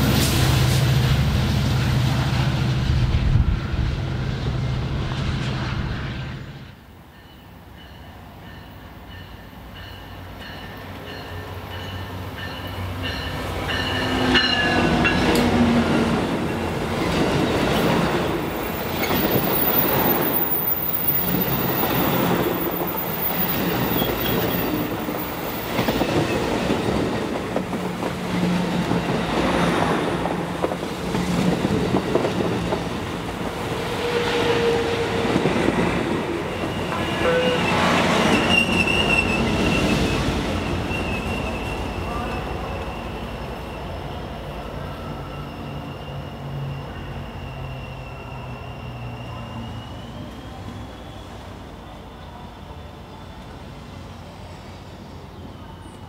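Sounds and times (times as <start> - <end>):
passenger train passing: 0.0 - 56.0.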